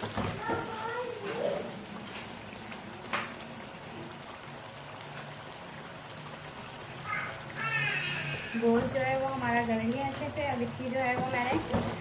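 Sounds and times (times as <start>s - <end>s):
stew bubbling: 0.0s - 12.0s.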